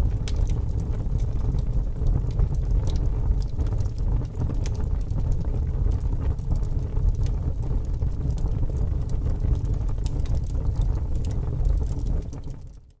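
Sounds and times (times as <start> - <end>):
burning wood crackling and popping: 0.0 - 13.0
campfire rumble: 0.0 - 13.0.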